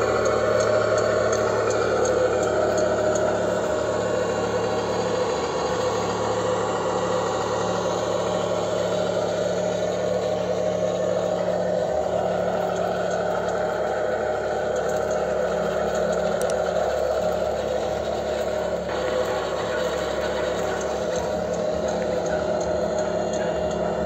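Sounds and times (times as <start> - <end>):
simulated truck engine idling: 0.0 - 24.0.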